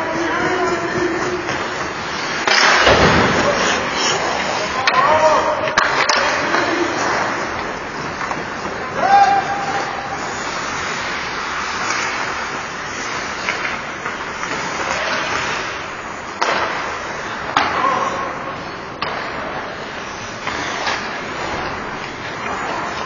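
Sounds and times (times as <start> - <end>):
hockey sticks and puck clacking: 0.0 - 23.0
skates scraping on ice: 0.0 - 23.0.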